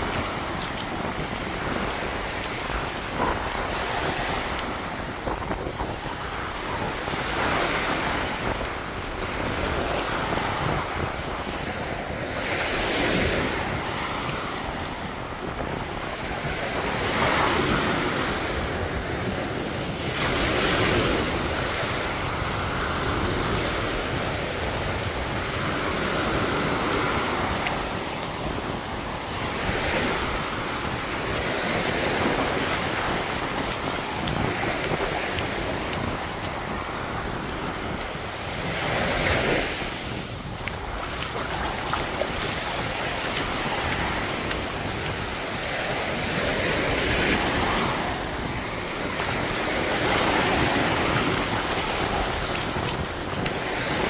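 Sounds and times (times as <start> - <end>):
ocean surf breaking on beach: 0.0 - 54.0
wind buffeting microphone: 0.0 - 54.0.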